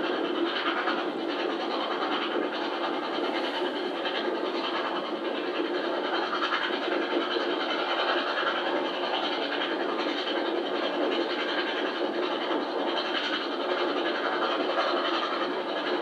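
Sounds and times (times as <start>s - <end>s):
train running at speed: 0.0s - 16.0s.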